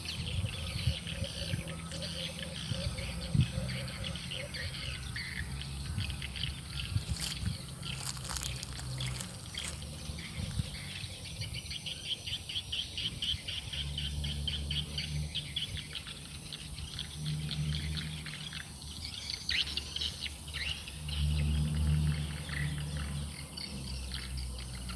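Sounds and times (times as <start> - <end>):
small birds chirping: 0.0 - 24.9
high insect drone: 2.0 - 24.9.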